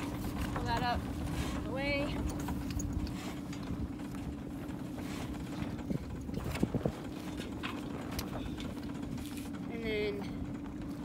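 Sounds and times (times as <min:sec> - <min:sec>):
sail hardware knocks and clicks: 0:00.0 - 0:09.7
outboard motor humming: 0:00.0 - 0:11.0.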